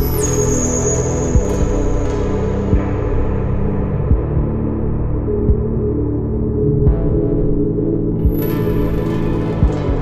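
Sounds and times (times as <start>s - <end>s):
slow low beat: 1.3s - 10.0s.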